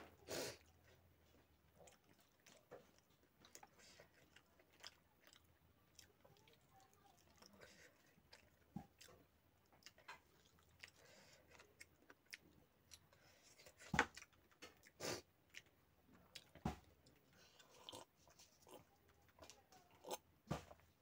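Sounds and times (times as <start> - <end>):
faint chewing and mouth clicks: 0.1 - 21.0.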